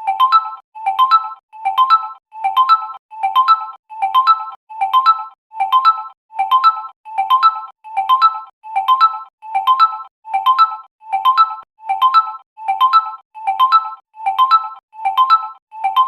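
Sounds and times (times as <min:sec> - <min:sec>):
phone ringtone rising notes: 0:00.1 - 0:16.0.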